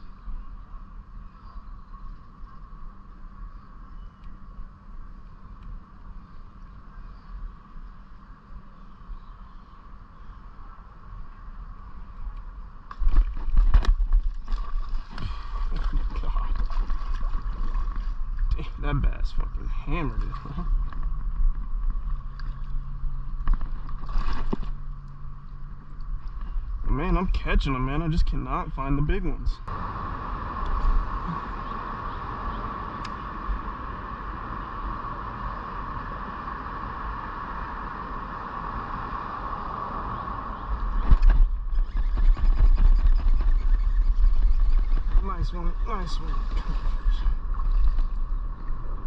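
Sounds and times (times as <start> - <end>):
road traffic hum: 0.0 - 49.0
wind rumble on microphone: 0.0 - 49.0.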